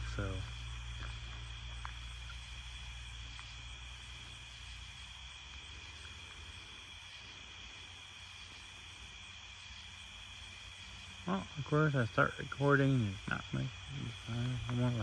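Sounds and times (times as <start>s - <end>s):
crickets trilling: 0.0s - 15.0s
low steady hum: 0.0s - 15.0s.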